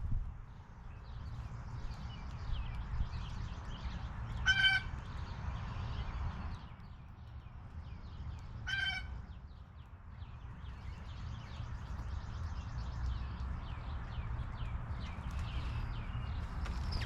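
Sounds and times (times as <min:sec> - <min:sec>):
birds chirping: 0:00.9 - 0:17.0.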